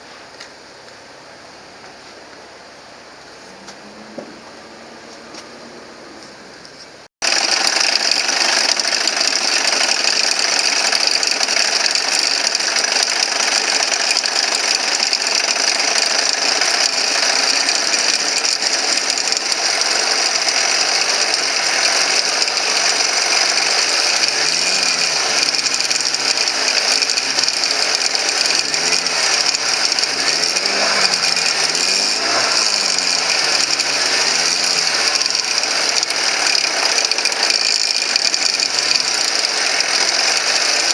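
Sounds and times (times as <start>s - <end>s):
car engine running: 0.0s - 40.9s
fast mechanical ticking rattle: 7.2s - 40.9s.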